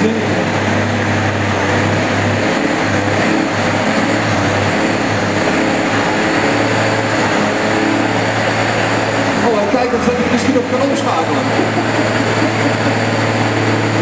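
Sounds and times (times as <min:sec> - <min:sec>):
diesel truck engine under load: 0:00.0 - 0:14.0.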